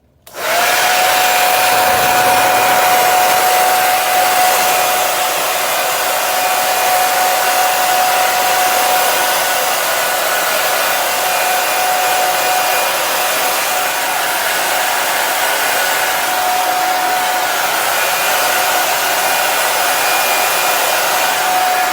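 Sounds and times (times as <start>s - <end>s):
hair dryer running: 0.3s - 21.9s.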